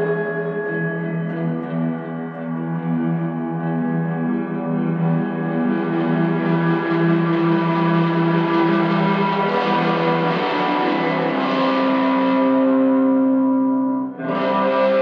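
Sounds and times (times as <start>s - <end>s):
ambient drone music: 0.0s - 15.0s.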